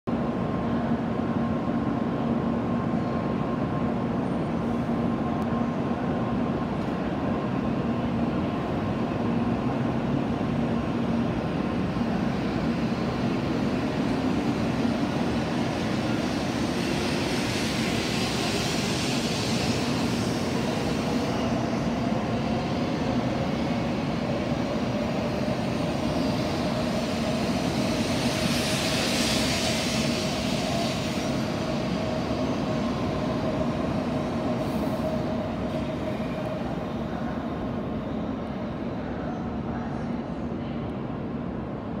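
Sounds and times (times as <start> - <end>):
train rumbling: 0.1 - 42.0.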